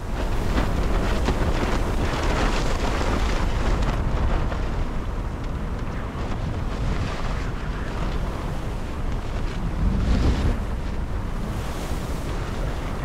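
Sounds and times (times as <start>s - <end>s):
strong wind buffeting microphone: 0.0s - 13.0s
water splashing along hull: 0.0s - 13.0s.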